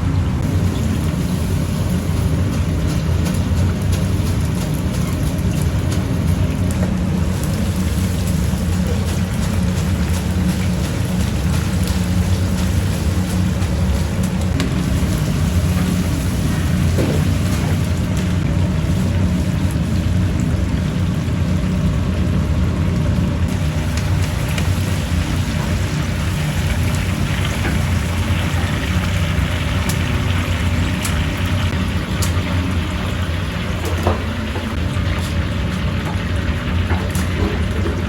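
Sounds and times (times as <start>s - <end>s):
steady low hum: 0.0s - 38.0s
chicken sizzling in hot oil: 0.4s - 38.0s.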